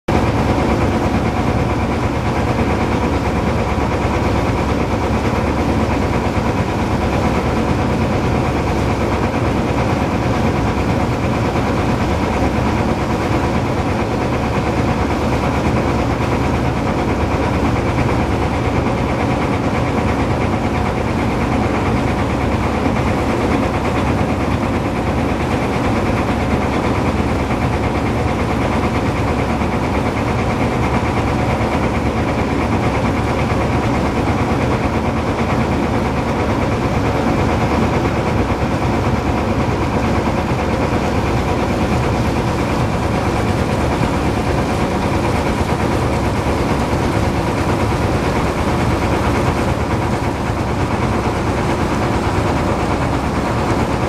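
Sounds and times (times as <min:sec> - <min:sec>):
boat engine droning: 0:00.1 - 0:54.0.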